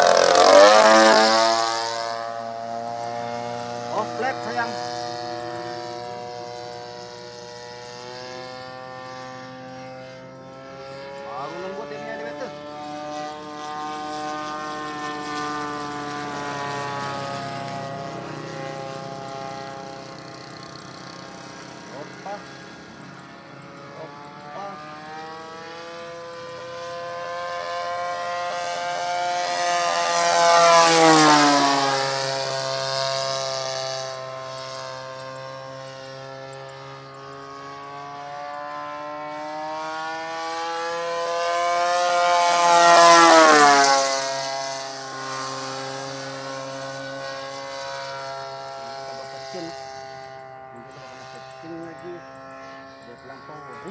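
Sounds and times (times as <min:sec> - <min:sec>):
model plane engine droning: 0:00.0 - 0:53.9.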